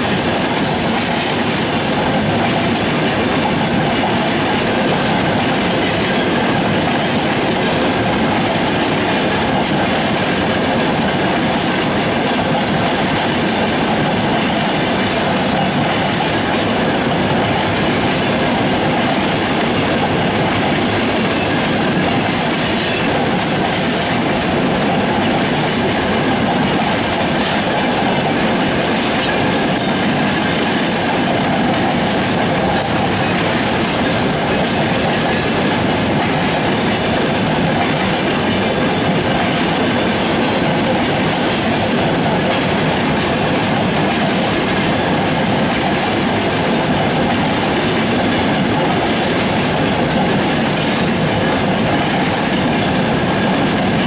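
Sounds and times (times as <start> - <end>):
steel wheels running on rails: 0.0 - 54.0.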